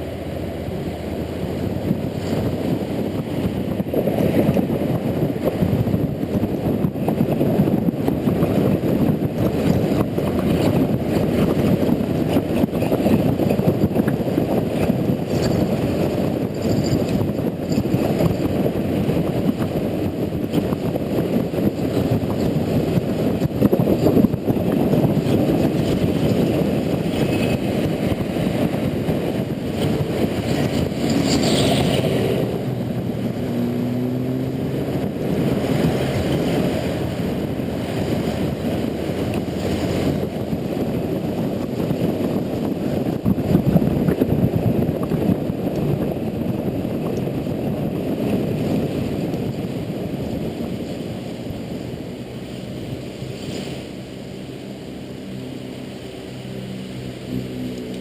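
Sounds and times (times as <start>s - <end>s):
motorcycle engine running: 0.0s - 58.0s
wind and road rumble: 0.0s - 58.0s.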